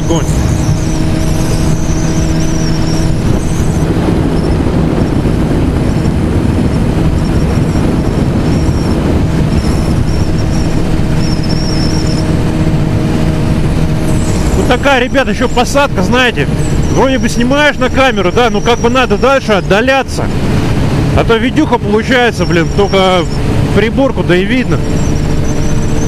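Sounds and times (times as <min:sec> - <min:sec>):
motorcycle engine cruising: 0:00.0 - 0:26.0
wind rushing over microphone: 0:00.0 - 0:26.0.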